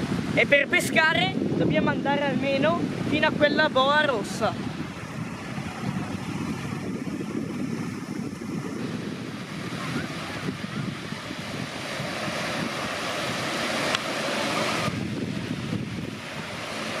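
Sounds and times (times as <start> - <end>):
lake waves lapping: 0.0 - 17.0
wind rumbling on microphone: 0.0 - 17.0.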